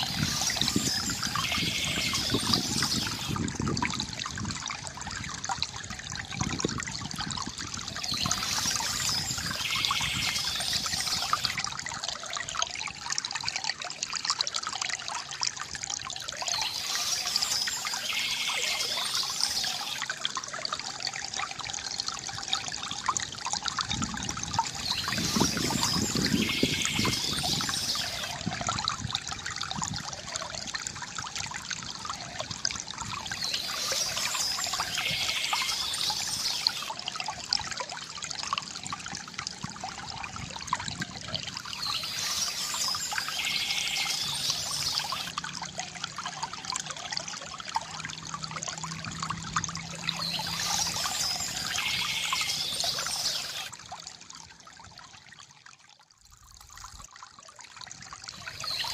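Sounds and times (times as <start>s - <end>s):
water trickling from bamboo fountain: 0.0s - 58.9s.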